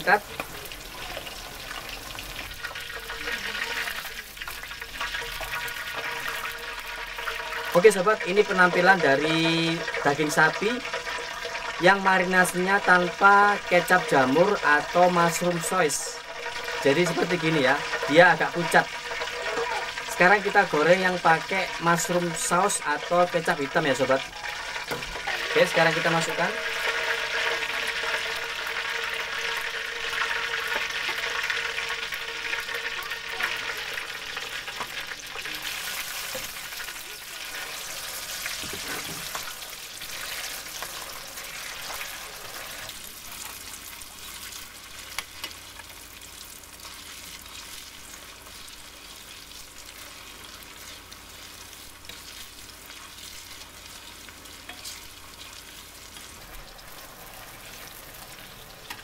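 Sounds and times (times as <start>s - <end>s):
meat sizzling in hot oil: 0.0s - 59.0s.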